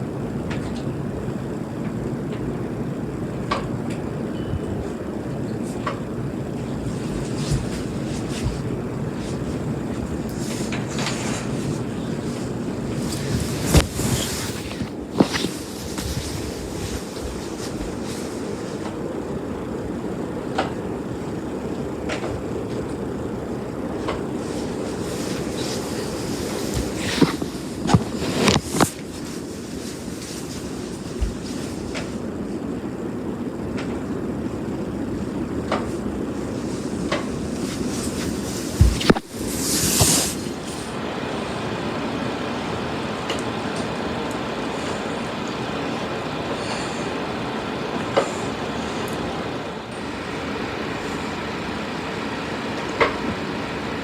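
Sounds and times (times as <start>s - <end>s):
ceiling fan whirring: 0.0s - 54.0s.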